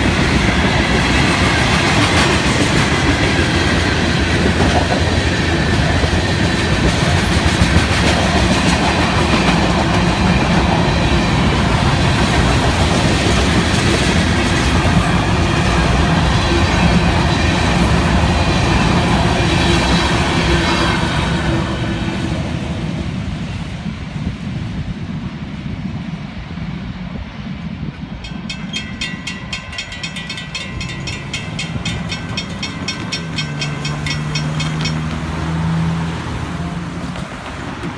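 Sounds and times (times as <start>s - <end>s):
train wheels clattering on rails: 0.0s - 23.2s, 27.9s - 37.9s.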